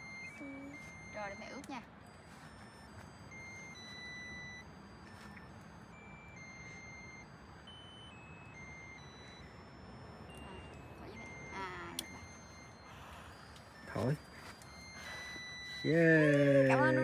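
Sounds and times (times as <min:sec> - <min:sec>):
electronic beeper melody: 0:00.0 - 0:17.0.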